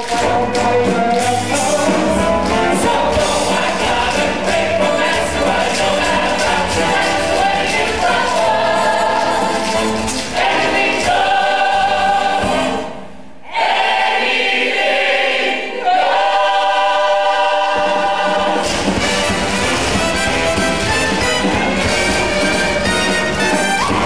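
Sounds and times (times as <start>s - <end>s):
musical accompaniment with bass: 0.0s - 13.3s, 16.7s - 24.0s.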